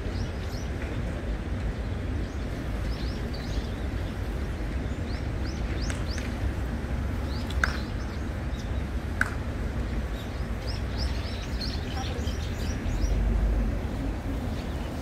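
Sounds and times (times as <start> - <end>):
low outdoor rumble: 0.0 - 15.0
small birds chirping: 1.7 - 9.1, 9.8 - 15.0.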